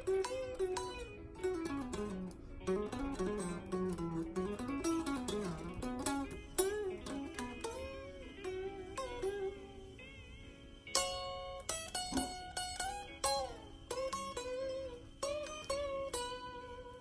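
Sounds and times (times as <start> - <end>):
electric guitar lead with bends: 0.0 - 17.0.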